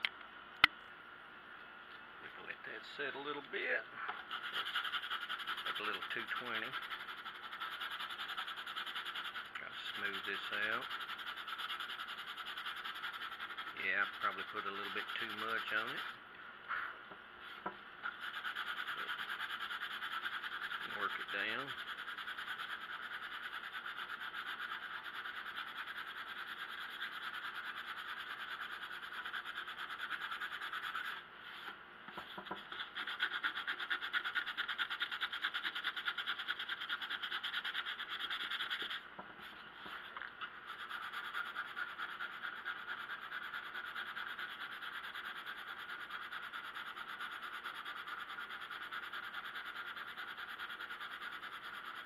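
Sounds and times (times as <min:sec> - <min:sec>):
sandpaper sanding wood: 0:04.2 - 0:16.2, 0:18.0 - 0:39.0, 0:39.9 - 0:52.0.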